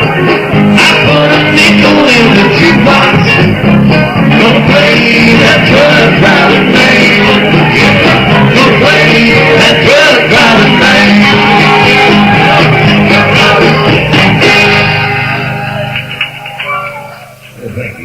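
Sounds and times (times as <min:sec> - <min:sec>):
country band instrumental: 0:00.0 - 0:18.0
lead guitar: 0:00.0 - 0:18.0.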